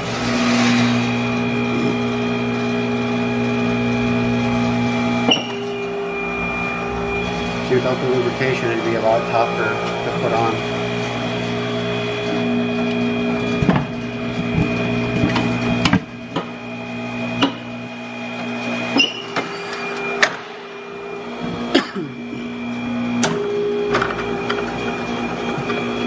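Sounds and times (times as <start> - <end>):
turntable motor humming: 0.0 - 26.0.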